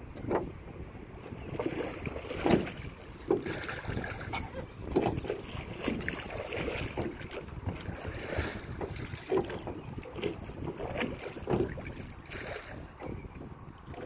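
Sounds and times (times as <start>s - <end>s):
oars dipping into water: 0.0s - 14.0s
oars working in oarlocks: 0.0s - 14.0s
wind buffeting microphone: 0.0s - 14.0s.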